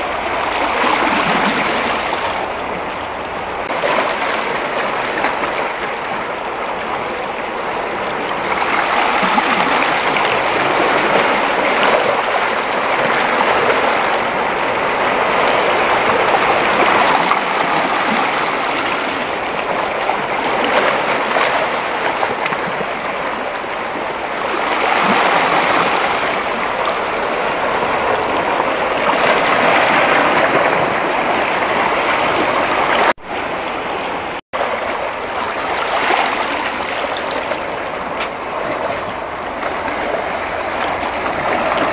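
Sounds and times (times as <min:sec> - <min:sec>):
sea waves on rocky shore: 0:00.0 - 0:41.9.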